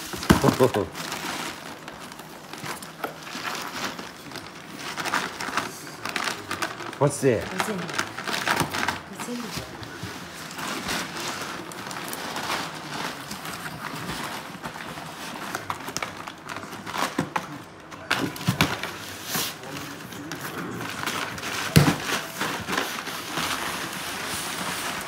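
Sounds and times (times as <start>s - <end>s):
cardboard rustling and scraping: 0.0s - 25.0s.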